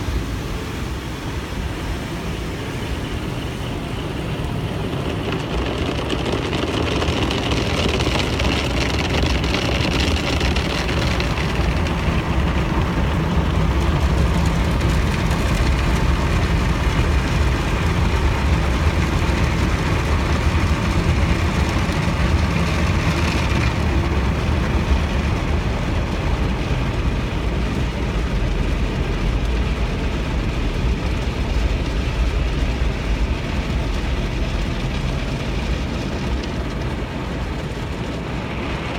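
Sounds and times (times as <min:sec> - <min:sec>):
car wash equipment rumbling: 0:00.0 - 0:38.9.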